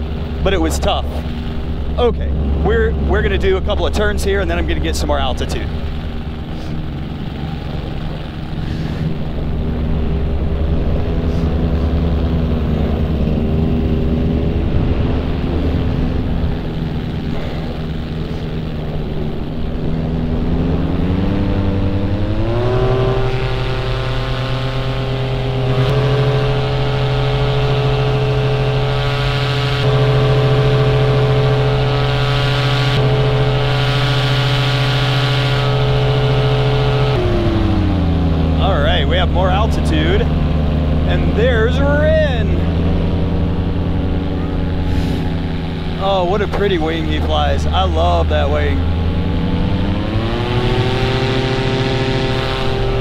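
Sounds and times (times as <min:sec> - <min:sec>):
paramotor engine and propeller: 0:00.0 - 0:53.0.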